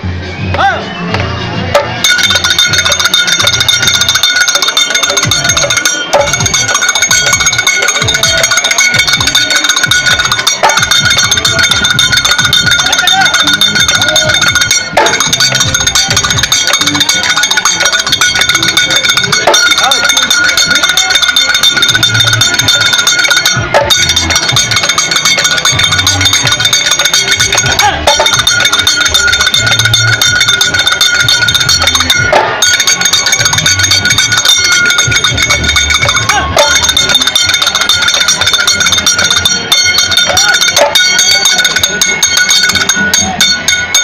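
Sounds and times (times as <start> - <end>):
large drums beaten: 0.5 - 44.0
hand cymbals ringing: 1.8 - 44.0.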